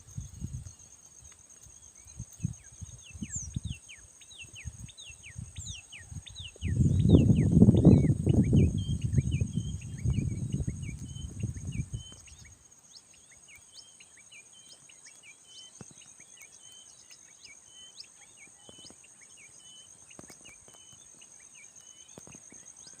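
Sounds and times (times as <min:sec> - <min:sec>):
high insect drone: 0:00.0 - 0:23.0
small birds chirping: 0:00.0 - 0:23.0.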